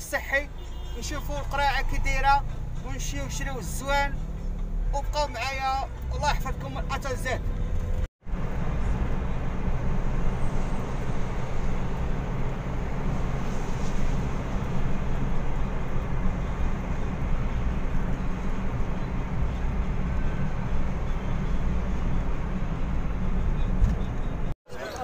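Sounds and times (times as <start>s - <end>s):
car engine and tyre rumble: 0.0s - 24.6s.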